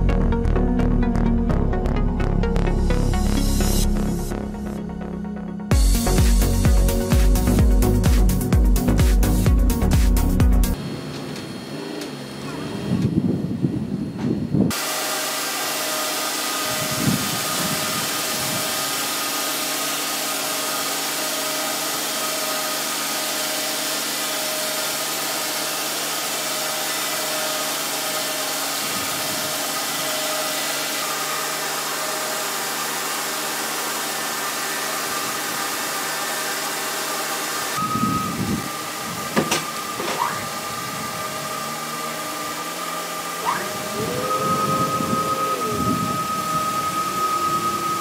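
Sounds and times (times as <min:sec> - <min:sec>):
sawmill machinery running: 0:05.7 - 0:48.0.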